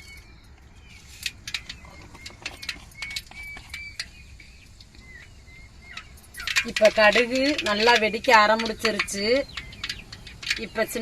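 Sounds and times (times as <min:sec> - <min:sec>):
mustard seeds popping in oil: 0:00.0 - 0:11.0.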